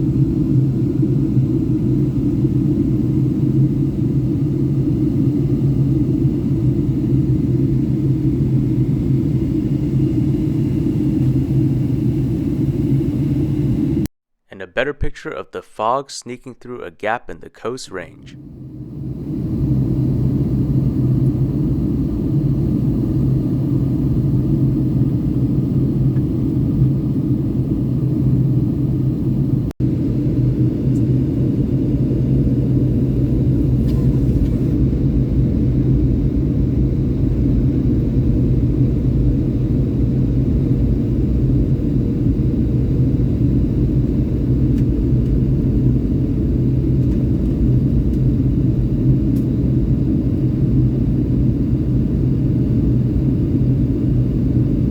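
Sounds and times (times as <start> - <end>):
airliner cabin rumble: 0.0 - 14.1, 18.3 - 54.9
even hum: 0.0 - 14.1, 17.6 - 54.9.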